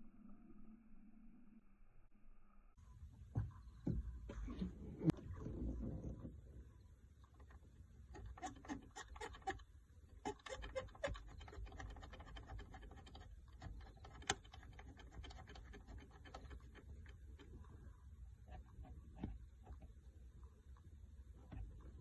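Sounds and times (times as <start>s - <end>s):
faint clicking and scratching: 3.3s - 22.0s.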